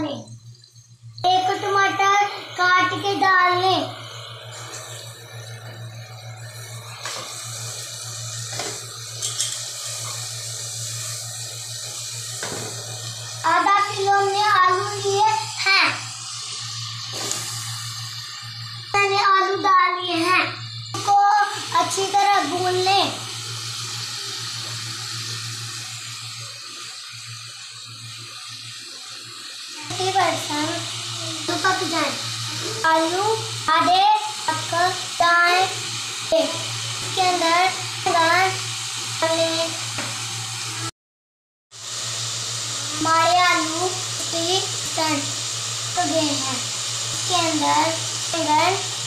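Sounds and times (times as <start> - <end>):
sauce sizzling and bubbling in pot: 0.0 - 40.9, 41.7 - 49.0.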